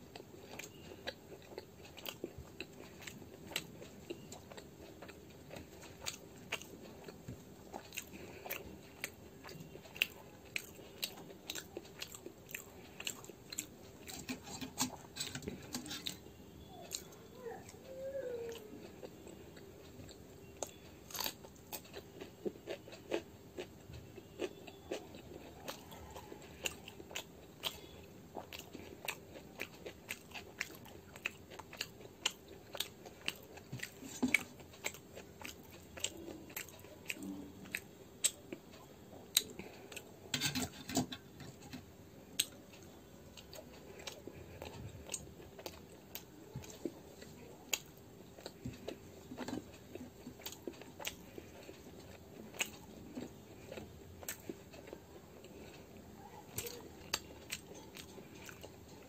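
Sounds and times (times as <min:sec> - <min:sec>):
faint steady hum: 0:00.0 - 0:59.0
person chewing and eating: 0:00.0 - 0:59.0.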